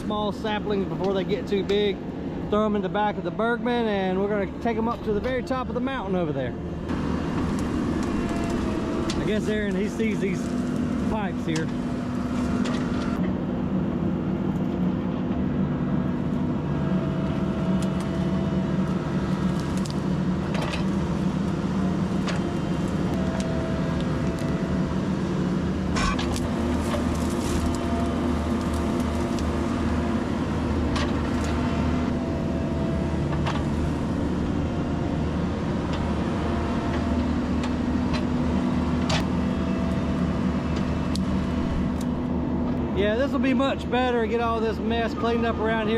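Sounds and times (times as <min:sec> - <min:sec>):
diesel equipment running: 0:00.0 - 0:45.9.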